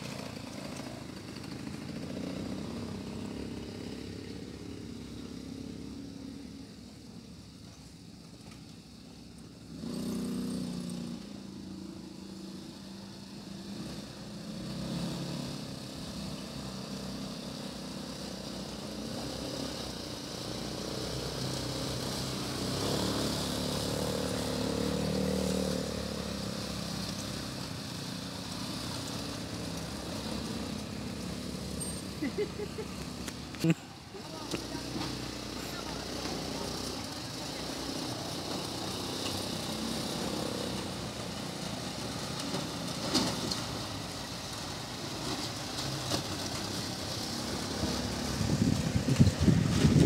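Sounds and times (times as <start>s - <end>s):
quad bike engines revving: 0.0s - 50.0s.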